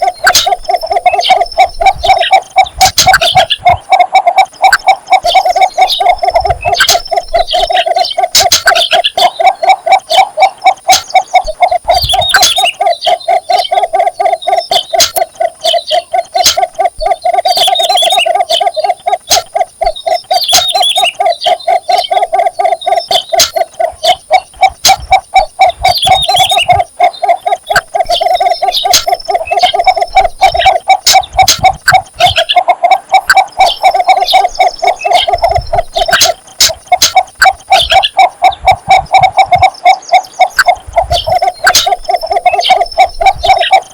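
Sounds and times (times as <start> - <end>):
bittern low rapid calls: 0.0 - 43.9
higher chirping calls: 0.0 - 43.9.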